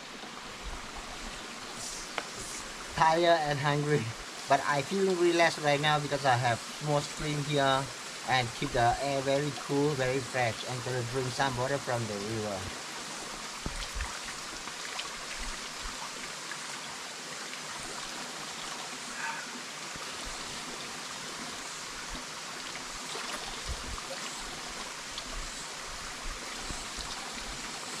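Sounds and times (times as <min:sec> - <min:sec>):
stream flowing: 0:00.0 - 0:28.0.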